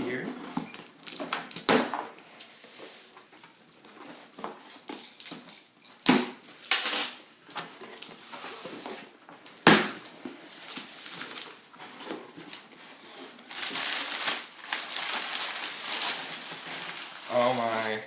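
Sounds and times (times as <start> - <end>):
cardboard and packing rustling: 0.0 - 18.0.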